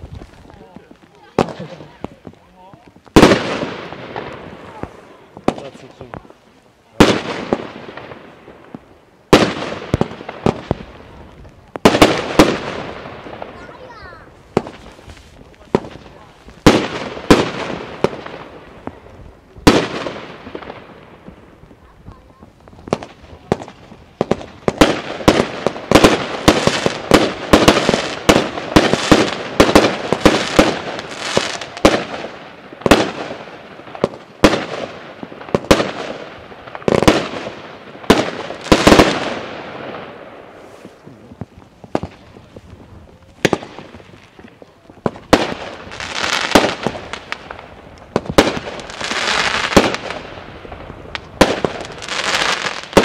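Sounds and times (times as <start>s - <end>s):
firework bangs: 0.0s - 53.0s
hissing crackle: 0.0s - 53.0s.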